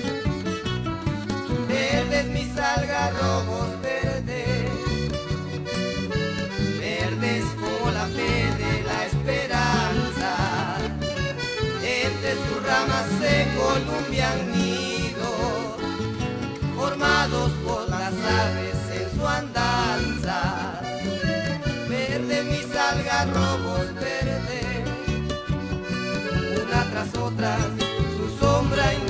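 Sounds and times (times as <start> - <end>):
accordion lead melody: 0.0 - 29.0
bass: 0.0 - 29.0
cajon beat: 0.0 - 29.0
guitars: 0.0 - 29.0.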